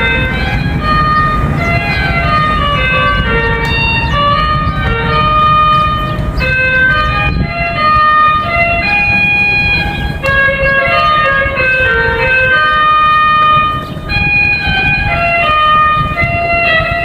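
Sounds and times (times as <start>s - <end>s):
carillon bells playing melody: 0.0s - 17.0s
steady low rumble: 0.0s - 17.0s.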